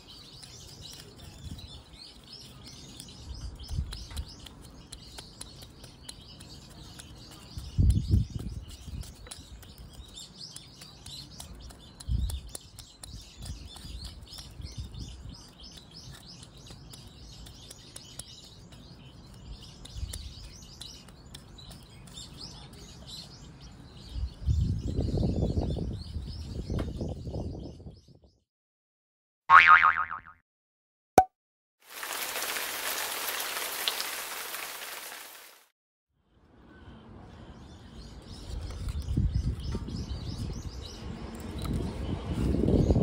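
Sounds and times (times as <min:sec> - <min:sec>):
small birds chirping: 0:00.0 - 0:28.4, 0:36.5 - 0:43.0.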